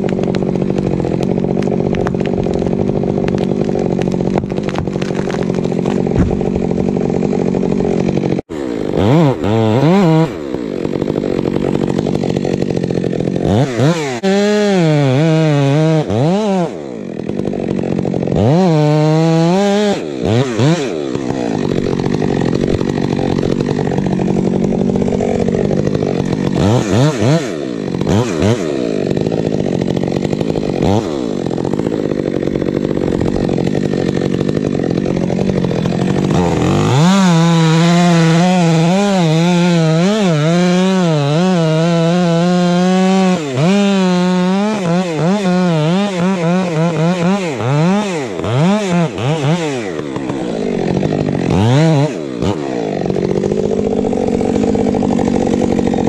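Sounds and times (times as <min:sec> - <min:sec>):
chainsaw cutting through trunk: 0:00.0 - 0:56.0.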